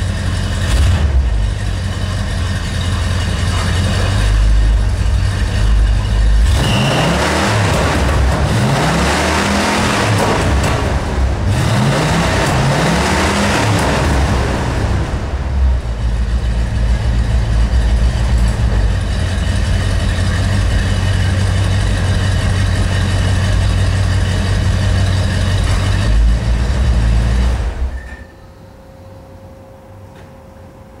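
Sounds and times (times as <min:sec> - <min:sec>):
car engine revving and idling: 0:00.0 - 0:28.0.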